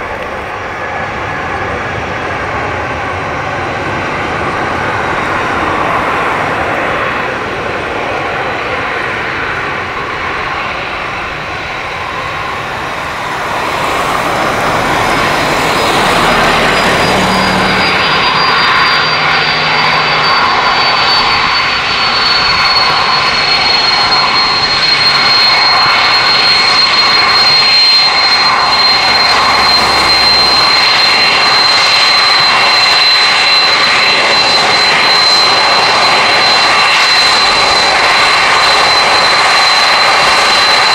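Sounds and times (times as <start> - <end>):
high fan whine: 0.0 - 40.9
jet engines at taxi power: 0.0 - 40.9.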